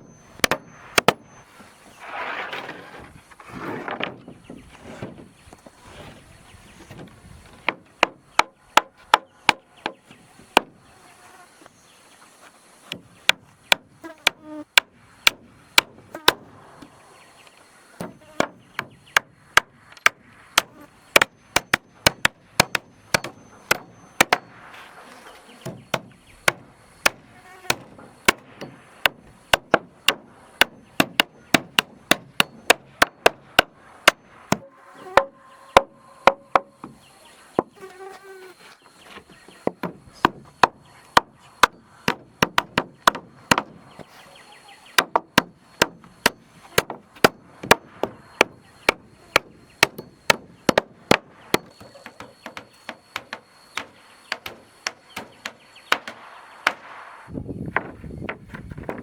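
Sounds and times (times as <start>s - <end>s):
hammer striking wooden planks: 0.0s - 1.4s, 6.8s - 10.9s, 12.8s - 17.0s, 18.0s - 37.8s, 39.1s - 59.0s.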